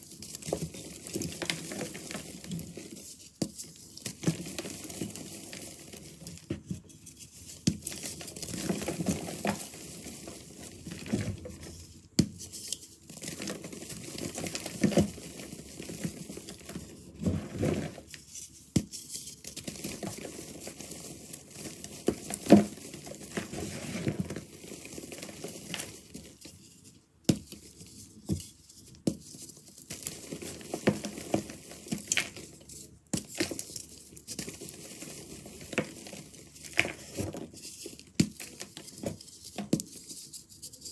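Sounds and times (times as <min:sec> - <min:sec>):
hands crumbling chalk blocks: 0:00.0 - 0:40.9.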